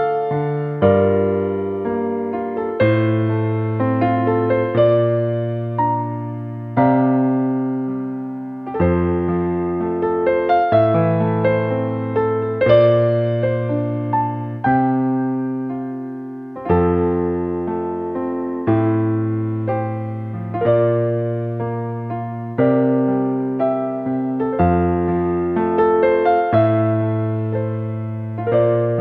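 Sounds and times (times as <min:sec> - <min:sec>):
slow solo piano piece: 0:00.0 - 0:29.0.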